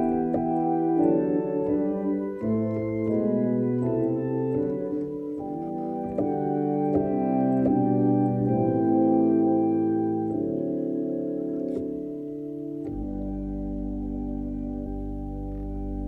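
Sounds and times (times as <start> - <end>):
electronic organ playing chords: 0.0 - 16.0.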